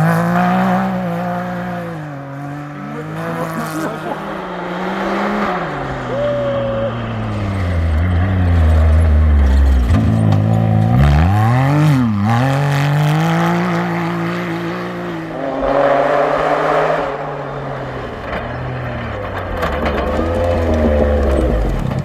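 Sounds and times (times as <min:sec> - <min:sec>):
engine accelerating hard: 0:00.0 - 0:22.0.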